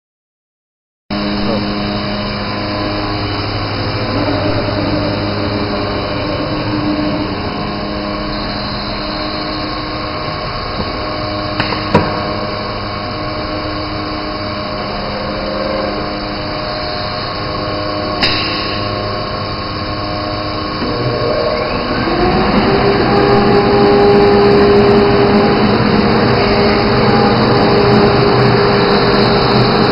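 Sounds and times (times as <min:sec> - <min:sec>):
cnc router machine hum: 0:01.1 - 0:29.9.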